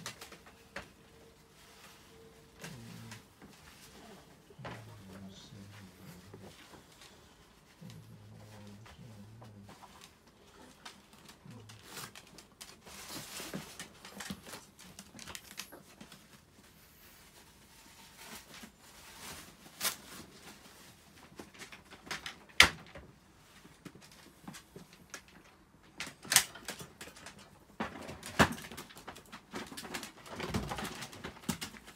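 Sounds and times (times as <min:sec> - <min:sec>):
rustling: 0:00.0 - 0:31.9.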